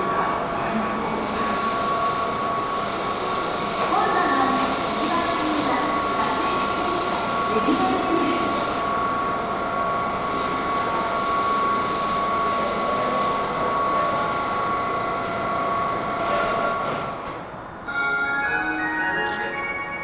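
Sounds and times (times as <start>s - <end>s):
electric train whine: 0.0s - 20.0s.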